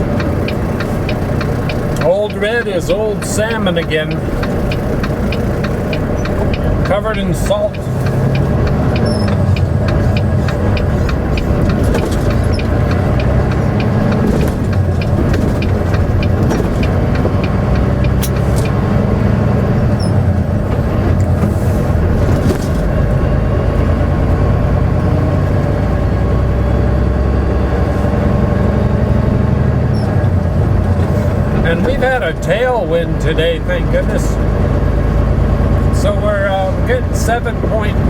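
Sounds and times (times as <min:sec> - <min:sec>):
diesel truck engine drone: 0:00.0 - 0:38.0.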